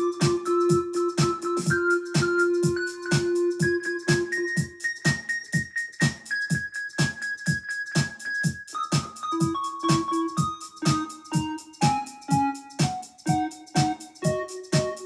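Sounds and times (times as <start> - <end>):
electronic music with steady beat: 0.0 - 15.0.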